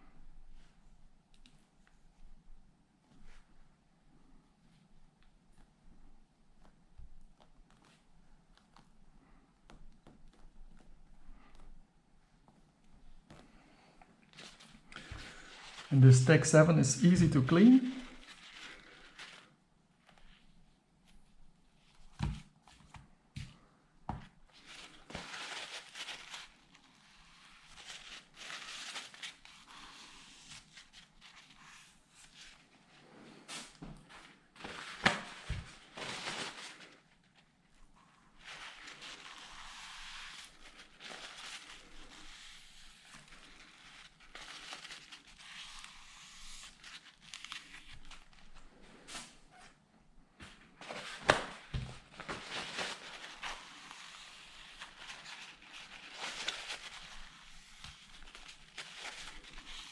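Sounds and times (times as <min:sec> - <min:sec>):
rustling and crinkling handling: 0:04.6 - 0:49.5, 0:50.3 - 0:59.9.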